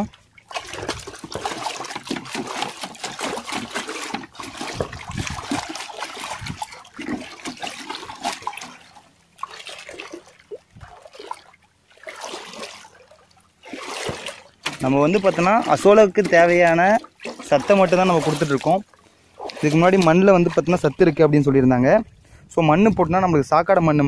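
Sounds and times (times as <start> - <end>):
hand splashing muddy water: 0.0 - 22.0.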